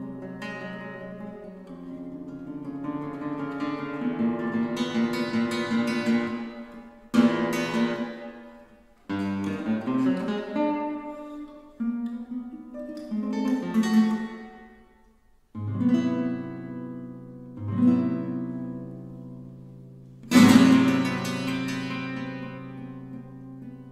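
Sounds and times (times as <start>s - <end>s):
classical guitar plucked chords: 0.0s - 23.9s.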